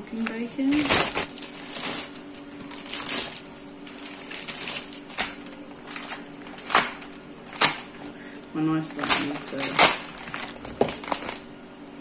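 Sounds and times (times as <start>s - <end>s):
plastic packaging crinkling: 0.1s - 11.5s.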